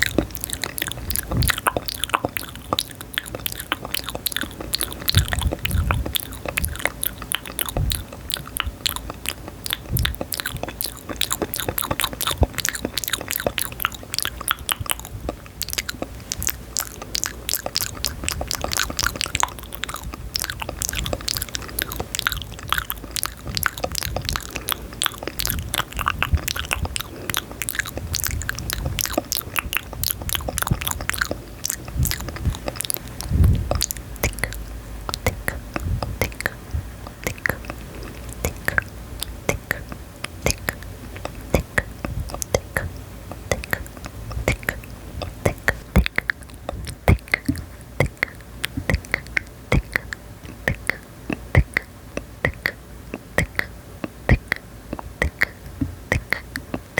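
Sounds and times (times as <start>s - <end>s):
wet mouth clicks: 0.0s - 56.9s.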